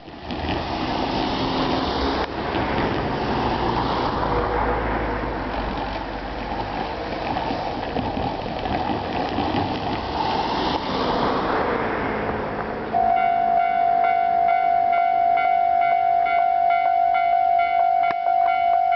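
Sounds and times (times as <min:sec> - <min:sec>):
vehicles passing rumble: 0:00.0 - 0:18.9.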